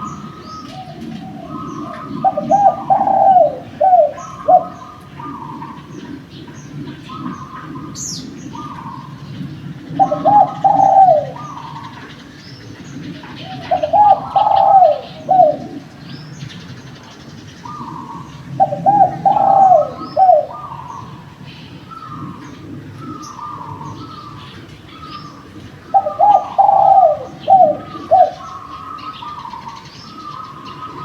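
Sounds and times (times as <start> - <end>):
doves cooing: 0.0 - 31.0.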